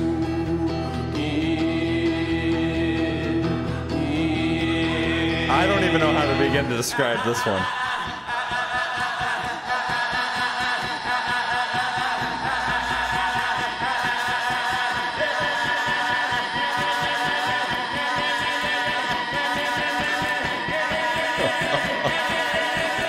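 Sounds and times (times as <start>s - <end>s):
strummed acoustic guitars: 0.0s - 23.0s.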